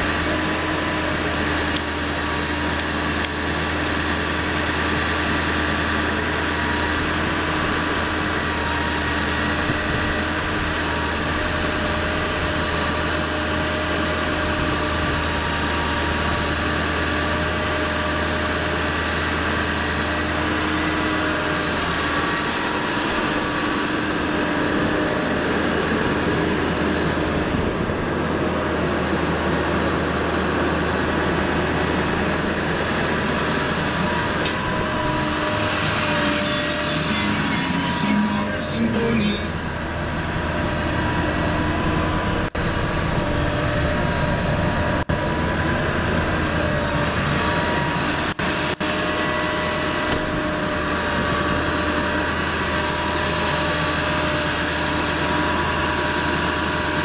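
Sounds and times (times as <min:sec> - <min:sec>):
diesel engine idling: 0:00.0 - 0:57.0
steady whine: 0:00.0 - 0:57.0.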